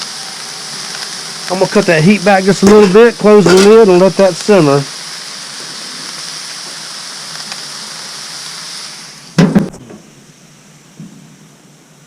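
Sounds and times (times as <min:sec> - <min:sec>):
vegetables sizzling on griddle: 0:00.0 - 0:12.0.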